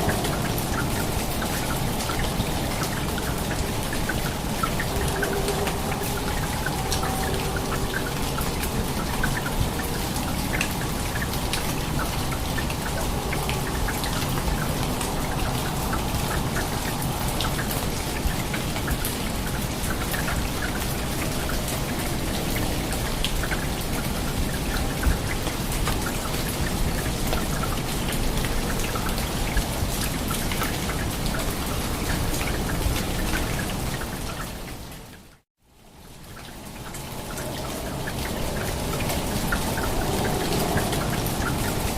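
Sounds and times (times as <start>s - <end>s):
heavy rain pattering: 0.0s - 41.9s.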